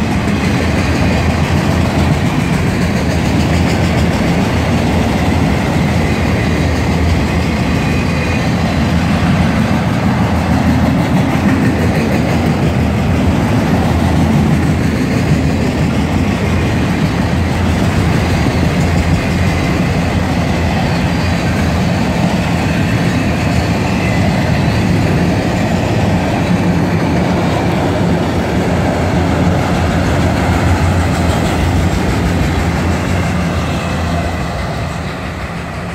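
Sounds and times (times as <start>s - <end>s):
train wheels rolling on rails: 0.0s - 35.9s.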